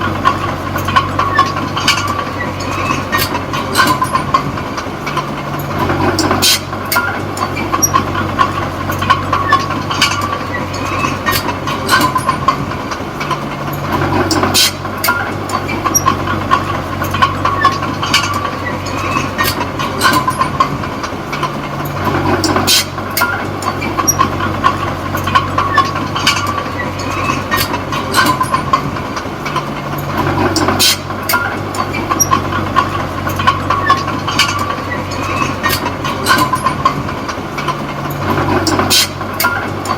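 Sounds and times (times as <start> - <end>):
bulldozer diesel engine running: 0.0 - 39.9
tracks clanking: 0.0 - 39.9.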